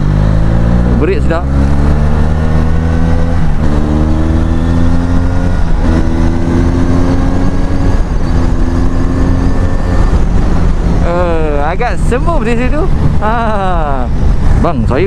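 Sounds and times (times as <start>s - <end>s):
motorcycle engine accelerating: 0.0s - 15.0s
wind on microphone: 0.0s - 15.0s.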